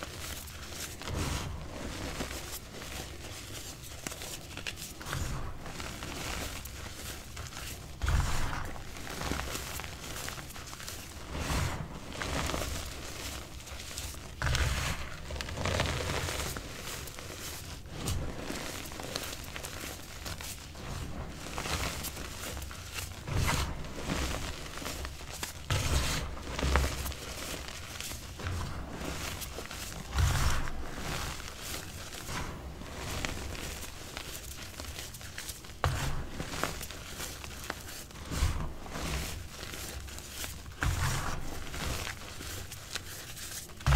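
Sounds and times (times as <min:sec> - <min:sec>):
chalk crunching in hands: 0:00.0 - 0:43.9.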